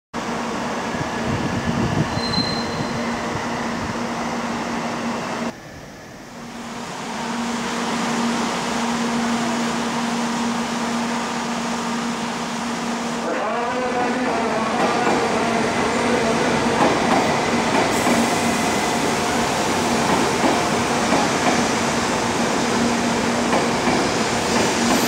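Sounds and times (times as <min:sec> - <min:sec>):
train hum and hiss: 0:00.2 - 0:25.0.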